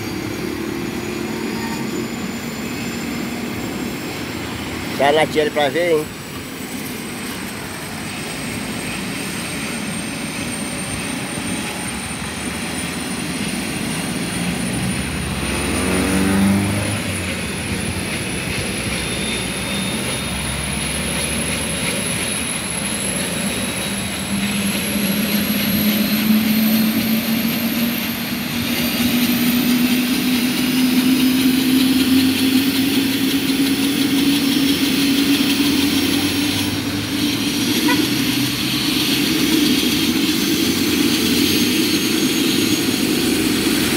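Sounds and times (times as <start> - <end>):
helicopter turbine whine: 0.0 - 43.9.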